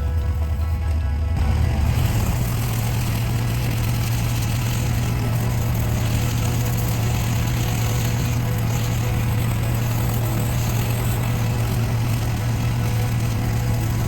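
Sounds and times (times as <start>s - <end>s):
pressure washer engine running: 0.0s - 14.0s
steady hiss: 1.4s - 14.0s.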